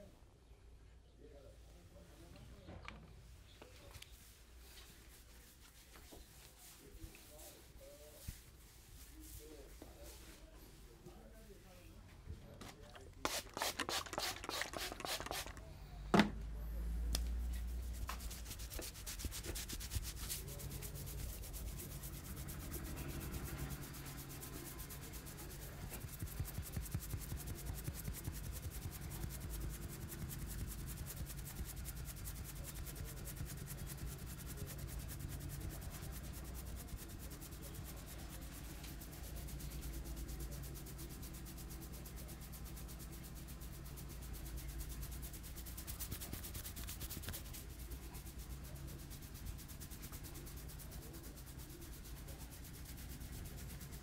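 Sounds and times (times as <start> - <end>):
fingers rubbing through hair: 3.7 - 11.7, 12.6 - 15.7, 17.1 - 54.0.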